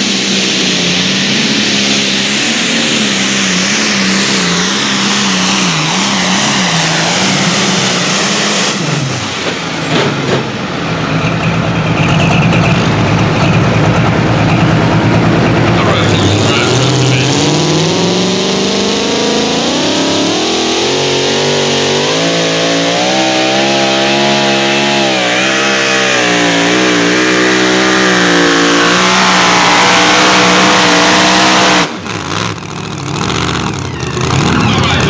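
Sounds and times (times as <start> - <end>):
engine at full throttle: 0.0 - 35.0.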